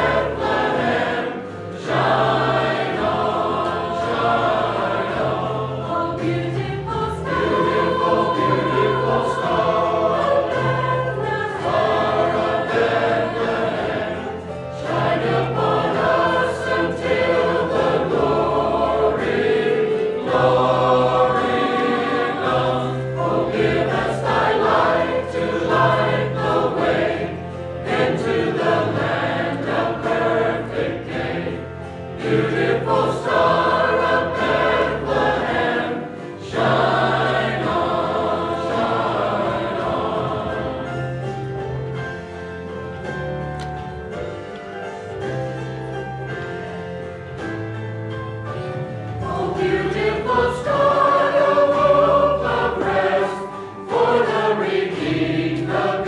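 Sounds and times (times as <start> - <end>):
choir singing in parts: 0.0 - 43.0, 48.8 - 56.0.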